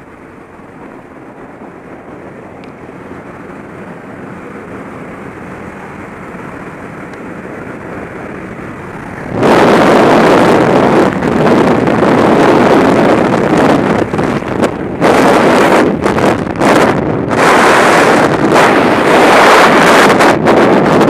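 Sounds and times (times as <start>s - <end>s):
plane engine and slipstream: 0.0s - 21.0s
wind rushing on microphone: 0.0s - 21.0s.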